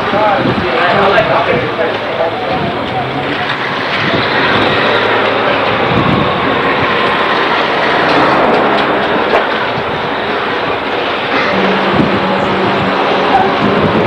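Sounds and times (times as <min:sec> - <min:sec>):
road traffic noise: 0:00.0 - 0:14.0
car driving past: 0:02.2 - 0:14.0.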